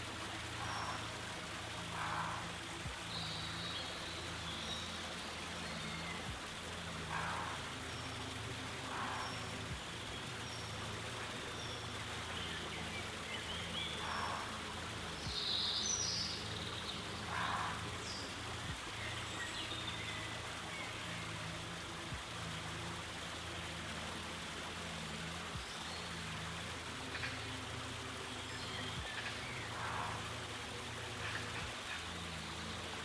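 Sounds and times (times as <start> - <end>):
water hissing: 0.0 - 33.0.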